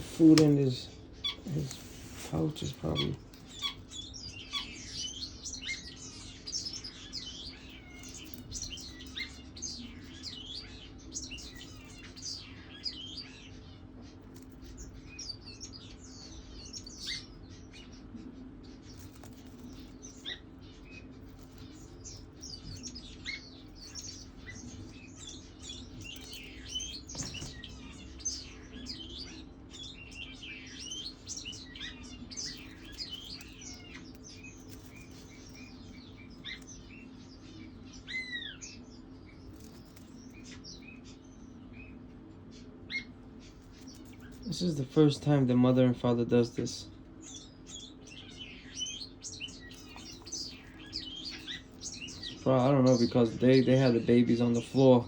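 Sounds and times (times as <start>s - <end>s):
pigeon squabs peeping: 0.0s - 45.7s, 46.4s - 54.8s
steady low hum: 0.0s - 55.0s.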